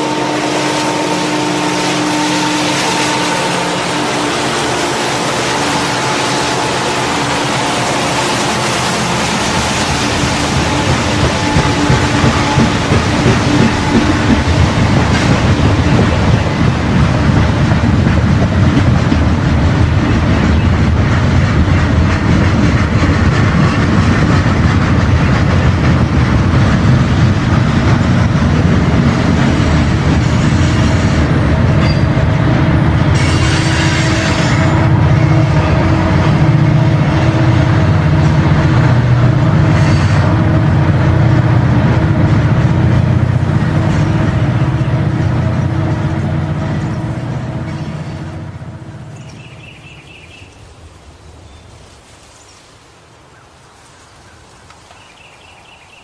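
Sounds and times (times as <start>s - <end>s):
train engine rumble: 0.0s - 56.0s.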